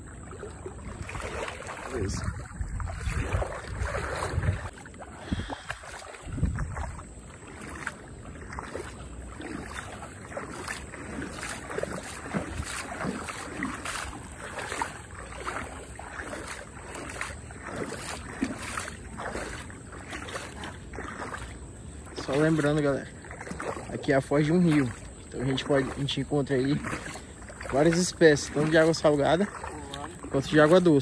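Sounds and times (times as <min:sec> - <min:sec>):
muddy water splashing and sloshing: 0:00.0 - 0:31.0.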